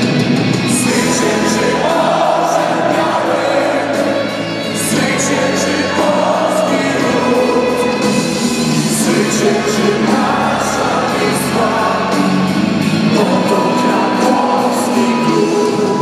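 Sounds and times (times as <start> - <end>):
crowd singing a chant: 0.7 - 16.0.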